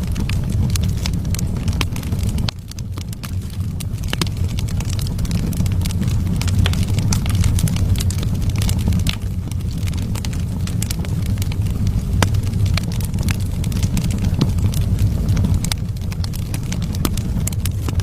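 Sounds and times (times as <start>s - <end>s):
low rumble of flames: 0.0s - 18.0s
wood fire crackling: 0.0s - 18.0s.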